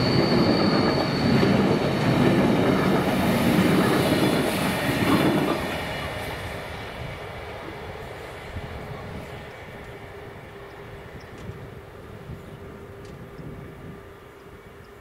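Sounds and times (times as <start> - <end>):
train wagons rumbling and clattering: 0.0 - 15.0.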